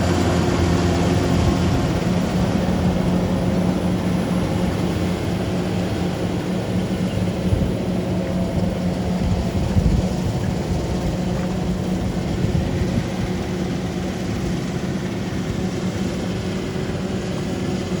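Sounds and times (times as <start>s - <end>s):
harvesting machine engine drone: 0.0s - 18.0s.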